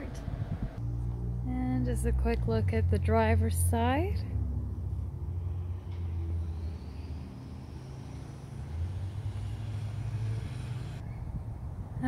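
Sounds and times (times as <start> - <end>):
faint whine rising in pitch: 0.0 - 11.4
motor vehicle rumbling: 0.0 - 12.0.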